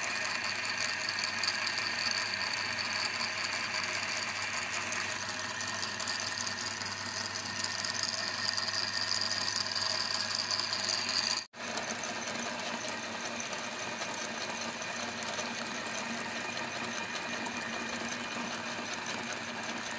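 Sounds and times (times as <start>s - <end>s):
meat grinder grinding grapes: 0.0s - 19.9s.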